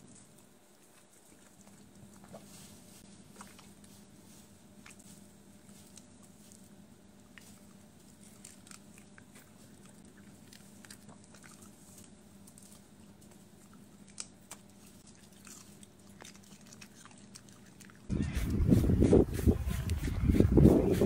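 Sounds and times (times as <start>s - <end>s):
dog chewing strawberry: 0.0s - 21.0s.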